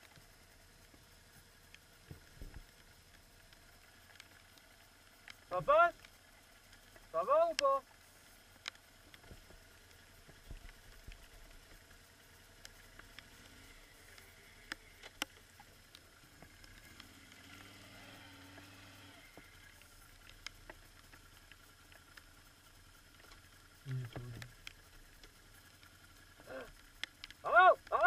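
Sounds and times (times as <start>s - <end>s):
light ticks: 0.0s - 28.0s
quad bikes idling: 0.0s - 28.0s.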